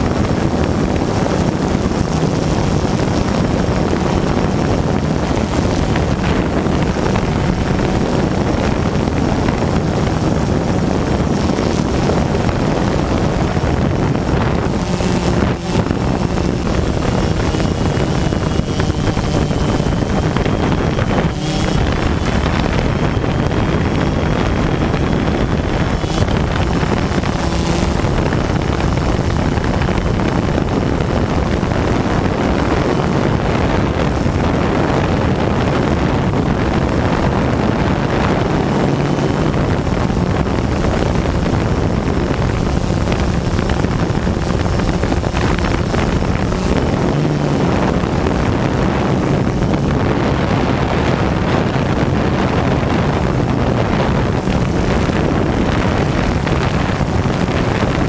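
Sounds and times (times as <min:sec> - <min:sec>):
drone motors buzzing: 0:00.0 - 0:58.0
wind noise on microphone: 0:00.0 - 0:58.0.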